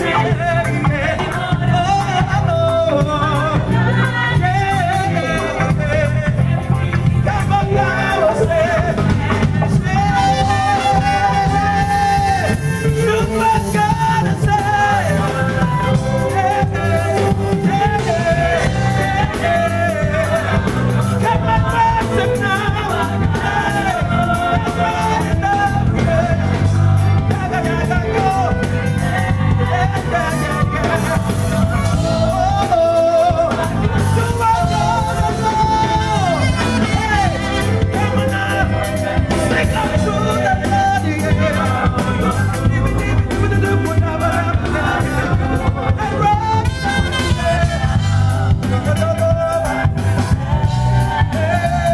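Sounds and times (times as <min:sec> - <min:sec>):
live band playing: 0:00.0 - 0:51.9
person singing melody: 0:00.0 - 0:51.9.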